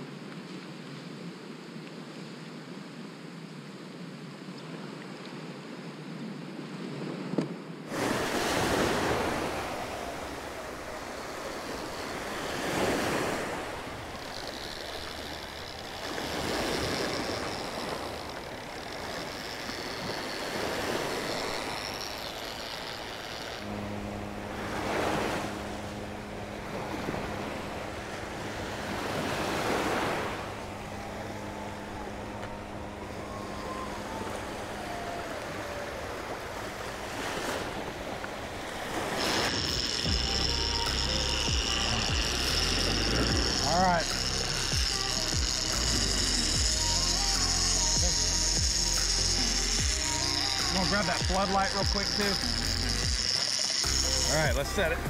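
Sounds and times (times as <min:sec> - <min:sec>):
surf breaking on beach: 0:07.8 - 0:55.0
low hum: 0:07.9 - 0:55.0.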